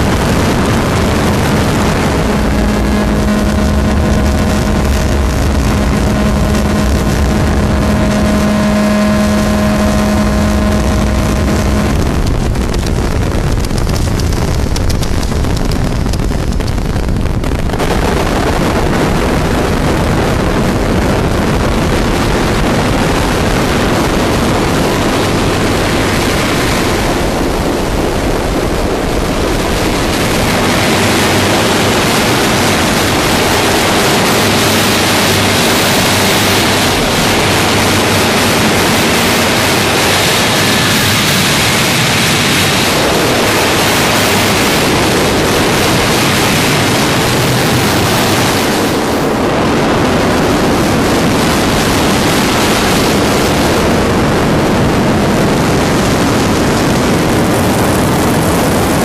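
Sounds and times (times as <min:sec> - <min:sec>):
harsh noise music static: 0:00.0 - 0:59.0.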